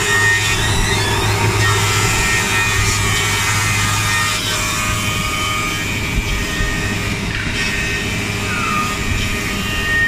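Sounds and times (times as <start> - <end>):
moulder machining with low hum: 0.0 - 10.0.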